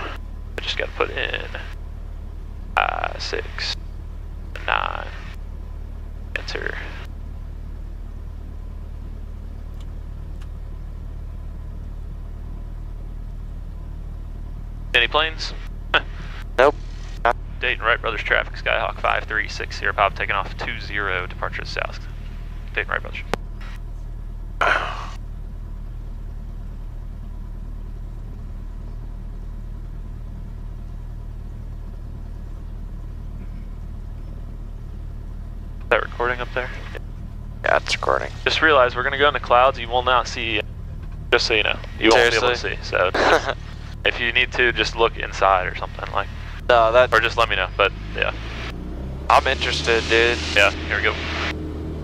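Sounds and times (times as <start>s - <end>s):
aircraft engine and propeller drone: 0.0s - 52.0s.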